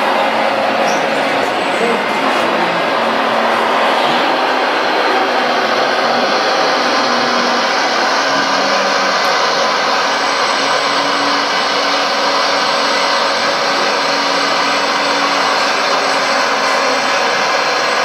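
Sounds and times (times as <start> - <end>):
model excavator motors whirring: 2.8 - 18.0.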